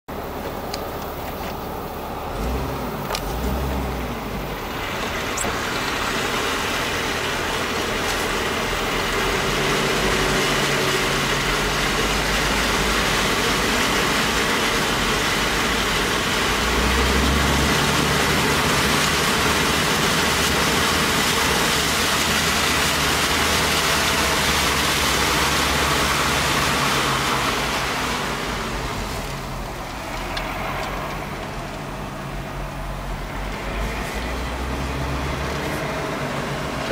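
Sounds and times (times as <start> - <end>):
car engine running: 0.1 - 36.9
water spray rushing from tyres: 0.1 - 36.9.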